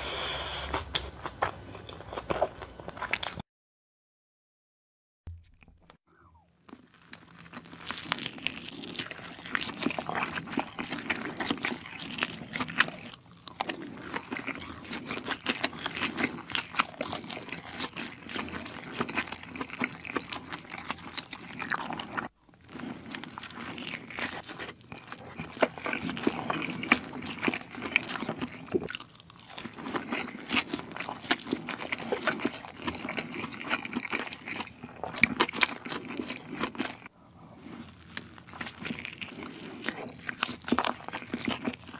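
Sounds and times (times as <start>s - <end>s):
chewing and biting dumplings: 0.7s - 3.4s, 6.6s - 41.9s.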